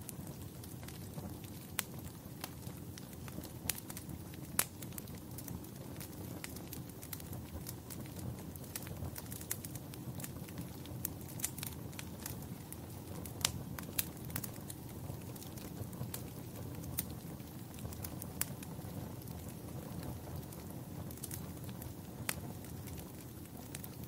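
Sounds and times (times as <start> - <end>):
fire crackling: 0.0 - 24.0
pops and snaps of fire: 0.0 - 24.0.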